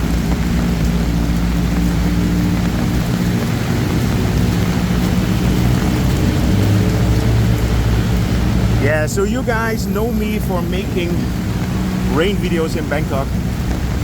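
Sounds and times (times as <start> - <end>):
heavy rain: 0.0 - 14.0
vehicle engines humming in traffic: 0.0 - 14.0.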